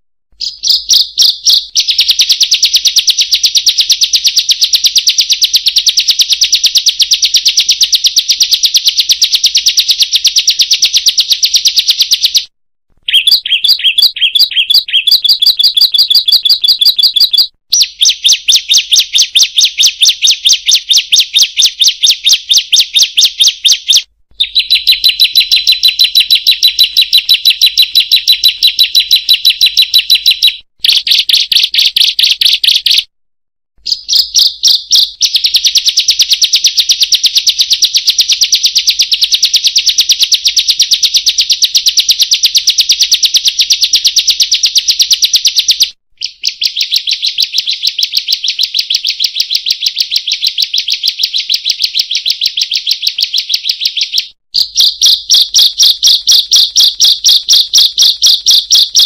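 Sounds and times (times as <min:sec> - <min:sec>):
songbird high-pitched kriek call: 0:00.4 - 0:33.1, 0:33.8 - 0:37.8, 0:44.1 - 0:59.0.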